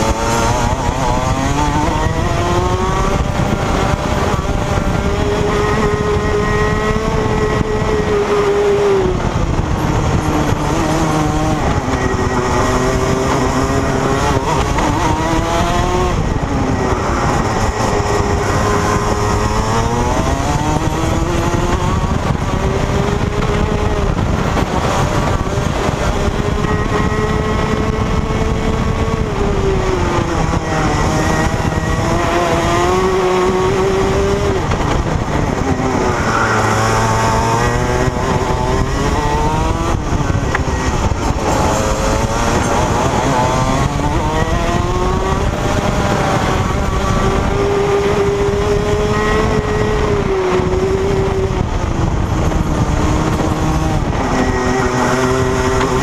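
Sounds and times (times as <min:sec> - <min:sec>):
kart engine revving: 0:00.0 - 0:56.0
steady rushing noise: 0:00.0 - 0:56.0.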